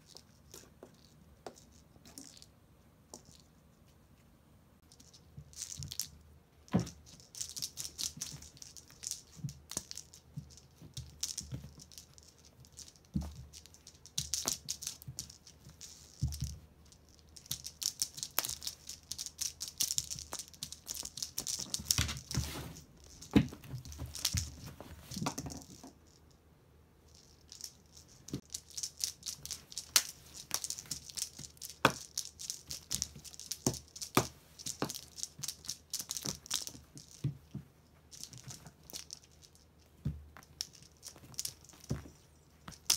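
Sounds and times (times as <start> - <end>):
kittens scratching and rattling toys: 6.7 - 26.4, 27.1 - 42.9.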